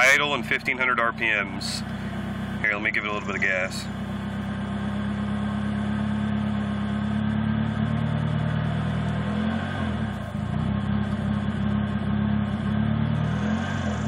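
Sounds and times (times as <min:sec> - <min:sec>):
car engine sputtering at low revs: 0:00.0 - 0:14.0.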